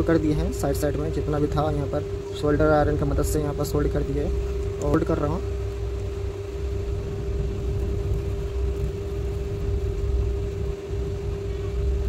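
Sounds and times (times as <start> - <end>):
low uneven rumble: 0.0 - 12.0
steady hum: 0.0 - 12.0.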